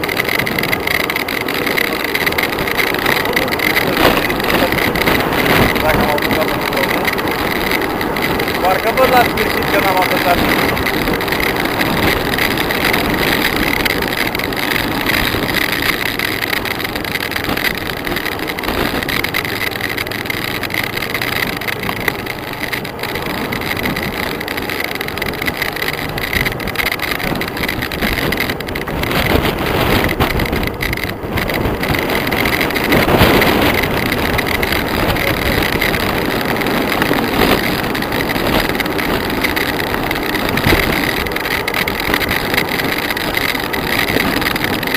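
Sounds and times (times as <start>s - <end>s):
passing motorcycles and cars: 0.0s - 44.9s
wind and road noise: 0.0s - 44.9s.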